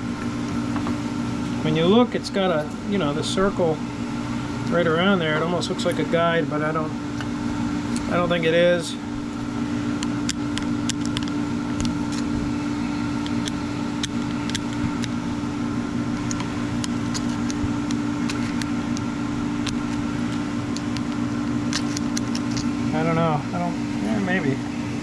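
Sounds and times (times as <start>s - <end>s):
electric machine hum: 0.0s - 25.0s.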